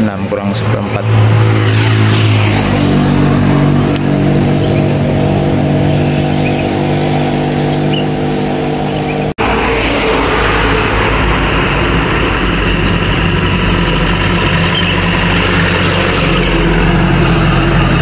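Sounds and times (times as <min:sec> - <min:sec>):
heavy vehicle engine passing: 0:00.0 - 0:18.0
tyre and road noise: 0:00.0 - 0:18.0.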